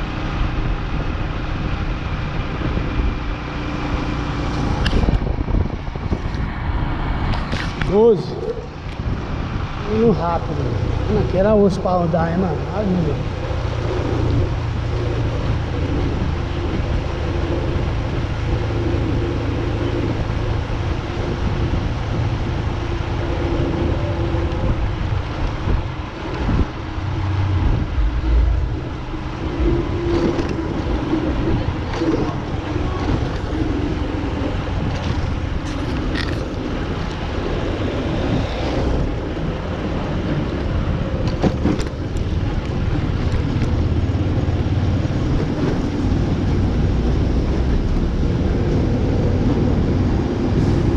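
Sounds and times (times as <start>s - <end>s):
vehicle rumble: 0.0s - 50.9s
wind buffeting microphone: 0.0s - 50.9s.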